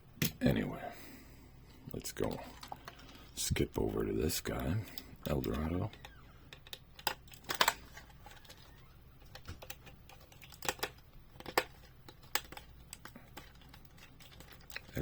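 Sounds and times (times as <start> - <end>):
hard plastic packaging handled: 2.1 - 15.0.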